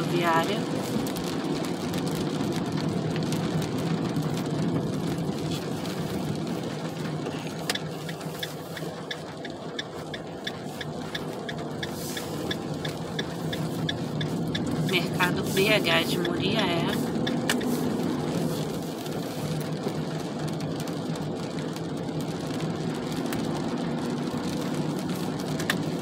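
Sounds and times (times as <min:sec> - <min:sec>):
car engine and road hum: 0:00.0 - 0:26.0
turn signal ticking: 0:00.0 - 0:26.0.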